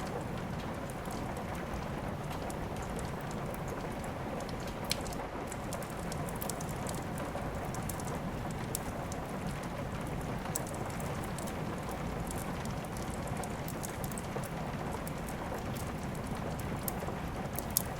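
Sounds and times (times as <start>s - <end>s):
steady rain: 0.0s - 17.9s
wood fire crackling: 0.0s - 17.9s.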